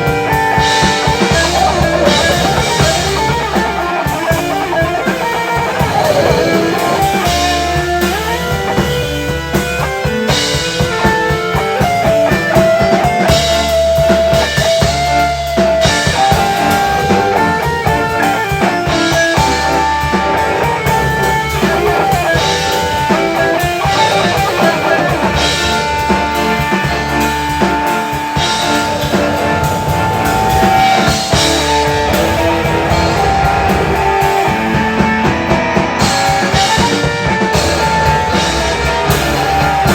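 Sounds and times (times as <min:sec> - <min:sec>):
lead line of long held notes: 0:00.0 - 0:08.6, 0:15.2 - 0:39.9
drum kit playing: 0:00.0 - 0:39.9
electric guitar: 0:00.0 - 0:39.9.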